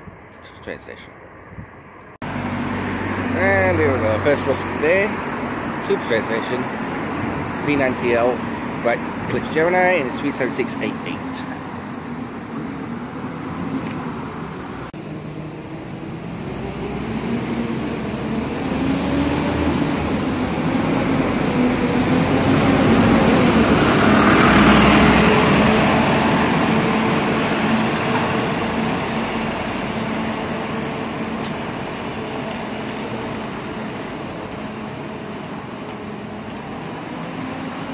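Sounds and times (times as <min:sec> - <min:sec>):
bus driving past on wet road: 0:02.2 - 0:37.9.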